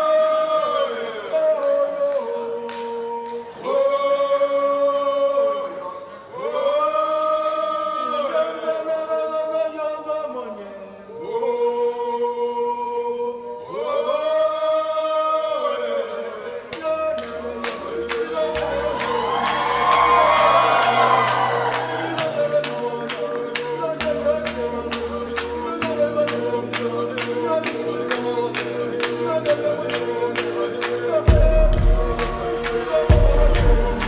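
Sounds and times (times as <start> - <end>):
choir singing held chords: 0.0 - 9.8, 10.6 - 34.0.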